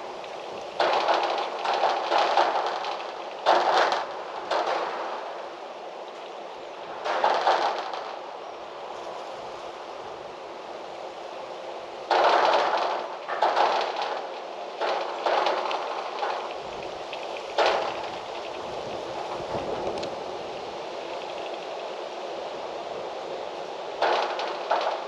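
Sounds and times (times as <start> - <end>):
wind blowing in gusts: 0.0 - 25.0.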